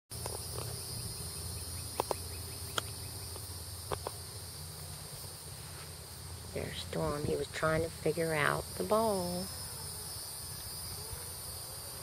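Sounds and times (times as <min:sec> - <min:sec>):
insects chirring: 0:00.1 - 0:12.0.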